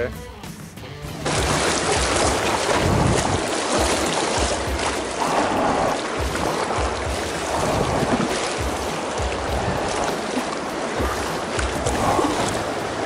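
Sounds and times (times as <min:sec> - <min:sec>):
low thumps: 0:01.2 - 0:13.0
river water rushing against raft: 0:01.2 - 0:13.0.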